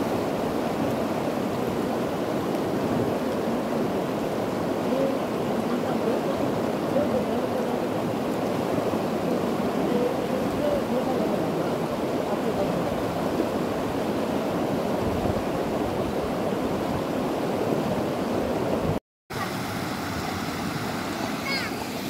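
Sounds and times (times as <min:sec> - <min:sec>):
river water rushing over rapids: 0:00.0 - 0:22.0.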